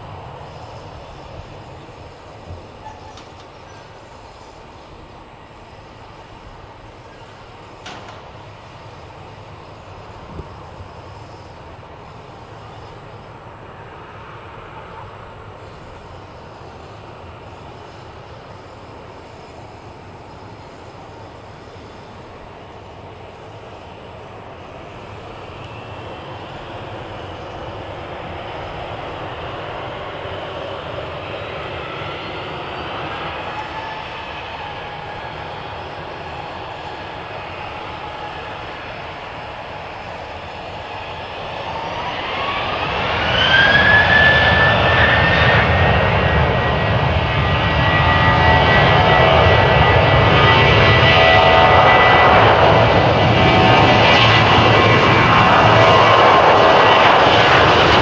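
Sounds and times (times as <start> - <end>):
engine noise: 0.0 - 58.0.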